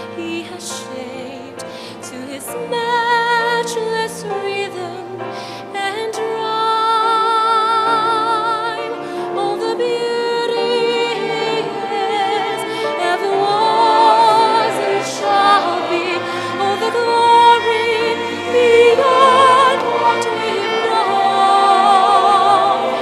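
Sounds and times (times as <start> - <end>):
orchestral accompaniment: 0.0 - 23.0
woman singing with vibrato: 0.2 - 23.0.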